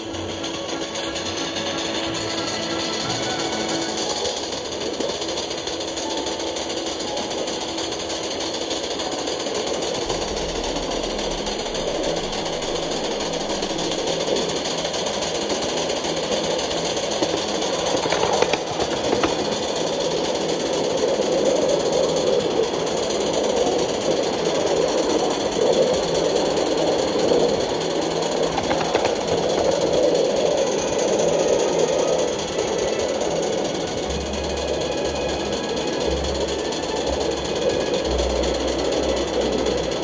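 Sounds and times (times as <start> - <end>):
steam locomotive exhaust beating: 0.0 - 40.0.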